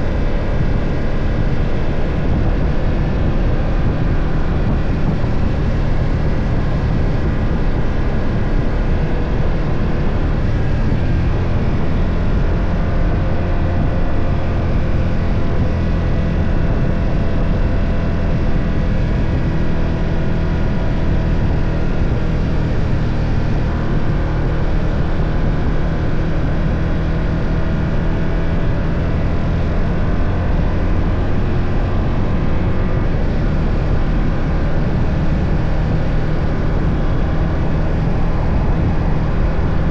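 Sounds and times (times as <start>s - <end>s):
motorcycle engine running: 0.0s - 39.9s
road and air noise: 0.0s - 39.9s.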